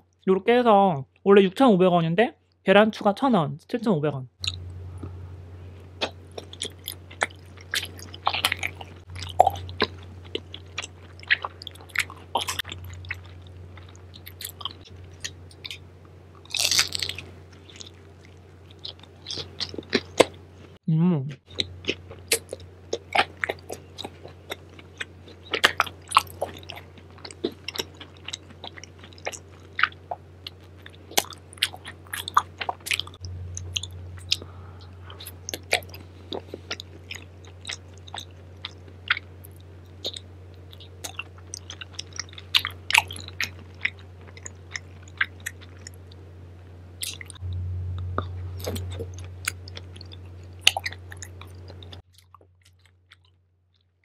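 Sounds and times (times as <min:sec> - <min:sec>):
low hum: 0:04.2 - 0:20.8, 0:21.5 - 0:52.4
chewing and crunching snacks: 0:04.4 - 0:05.2, 0:05.8 - 0:20.8, 0:21.5 - 0:46.2, 0:47.0 - 0:47.4, 0:48.2 - 0:54.0.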